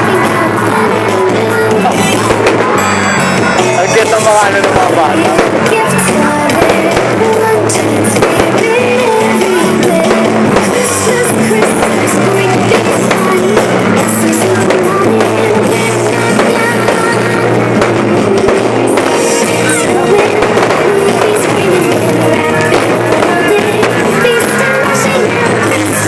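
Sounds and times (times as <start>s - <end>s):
loud rock music with singing: 0.0s - 26.0s.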